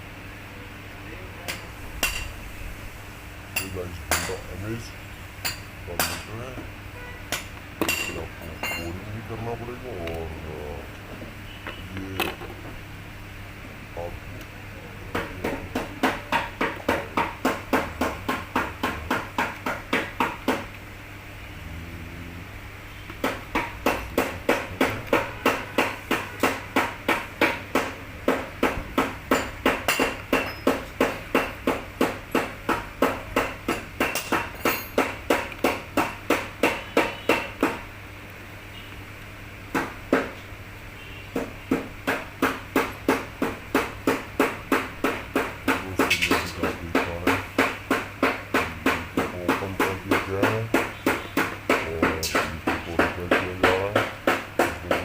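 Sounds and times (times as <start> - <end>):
low steady hum: 0.0 - 35.8, 44.8 - 55.0.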